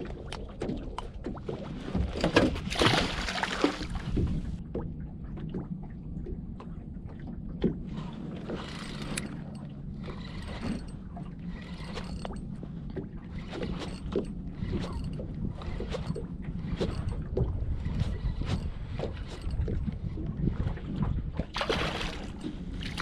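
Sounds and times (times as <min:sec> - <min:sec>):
low steady hum: 0:00.0 - 0:23.0
waves lapping against boat hull: 0:00.0 - 0:23.0.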